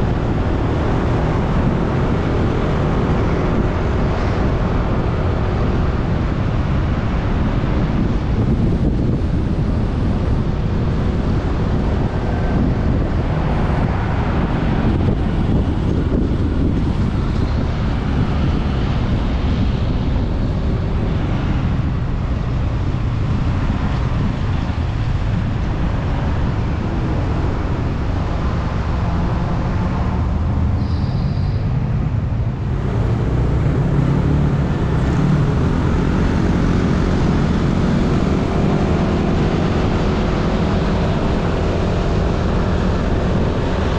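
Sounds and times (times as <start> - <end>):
passing traffic: 0.0 - 43.9
wind rumble on microphone: 0.0 - 43.9.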